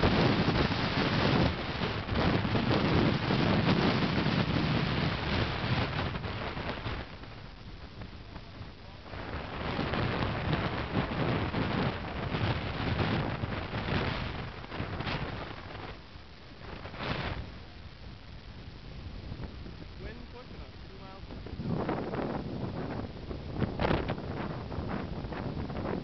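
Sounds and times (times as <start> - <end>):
gusty wind on microphone: 0.0 - 26.0.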